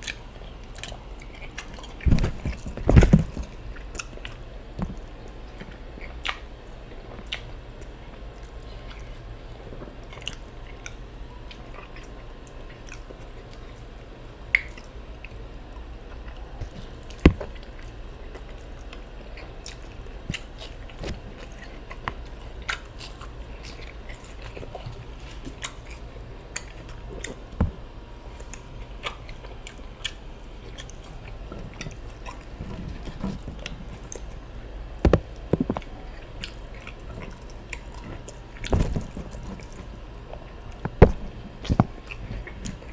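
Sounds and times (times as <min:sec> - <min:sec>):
chewing and biting: 0:00.0 - 0:42.9.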